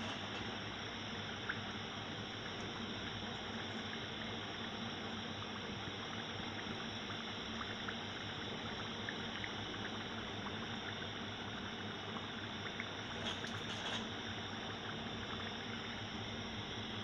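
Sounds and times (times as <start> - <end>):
deep-frying sizzle and bubbling: 0.0 - 17.0.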